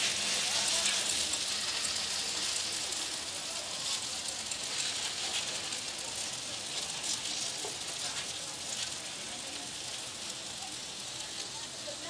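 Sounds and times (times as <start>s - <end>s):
batter sizzling in oil: 0.0s - 12.0s.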